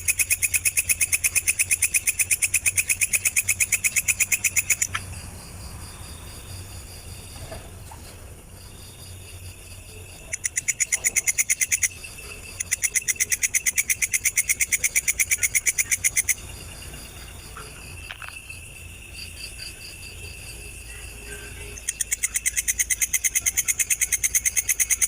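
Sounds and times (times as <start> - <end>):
high-pitched insect trill: 0.0 - 25.0
insect rasping pulses: 0.0 - 25.0.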